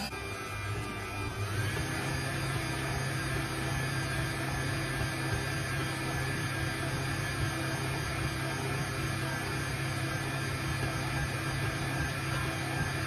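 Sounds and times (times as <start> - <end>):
stand mixer motor humming: 0.0 - 13.0.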